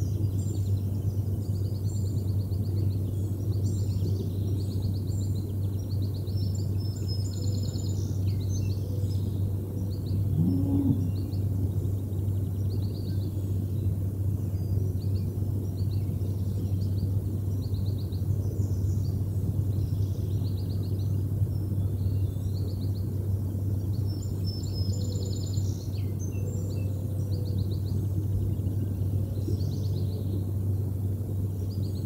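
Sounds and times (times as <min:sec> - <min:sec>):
loud steady low rumble: 0:00.0 - 0:32.0
songbirds trilling: 0:00.0 - 0:32.0.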